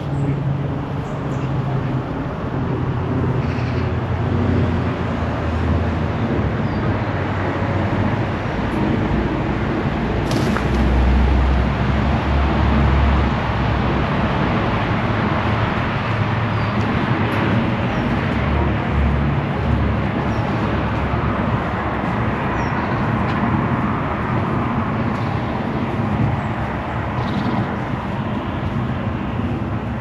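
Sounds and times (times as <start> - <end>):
vehicles passing on a street: 0.0 - 30.0.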